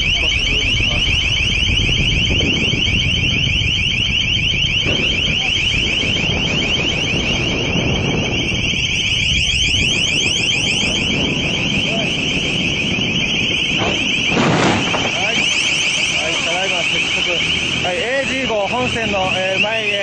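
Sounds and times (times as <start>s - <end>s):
pulsing high-pitched warning tone: 0.0s - 20.0s
steady low rumble: 0.0s - 20.0s.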